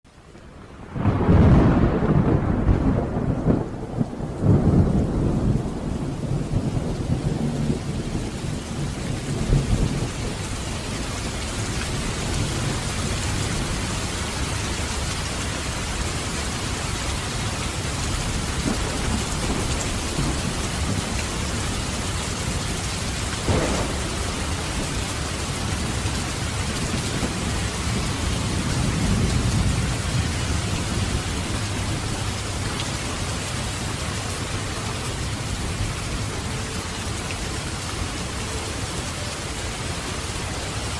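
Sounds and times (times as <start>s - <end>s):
steady rain falling: 0.1s - 40.9s
thunder rumbling: 0.8s - 38.9s.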